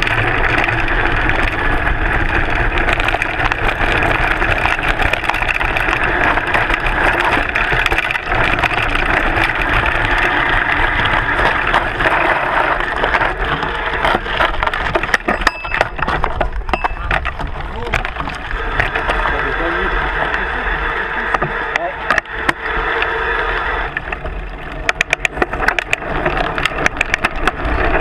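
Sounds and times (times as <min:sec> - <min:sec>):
stones clicking and knocking: 0:00.0 - 0:19.2, 0:24.0 - 0:28.0
bike rattling: 0:00.0 - 0:28.0
bike tyre crunching on gravel: 0:00.0 - 0:28.0.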